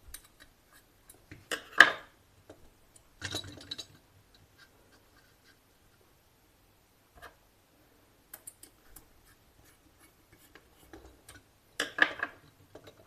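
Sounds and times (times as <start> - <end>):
light clicks and scratching: 0.0 - 6.1, 8.3 - 13.0.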